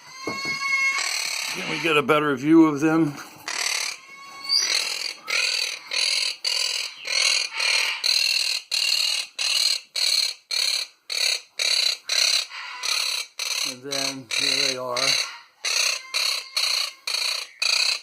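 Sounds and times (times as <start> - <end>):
parrot squawking: 0.1 - 2.2, 3.4 - 18.0.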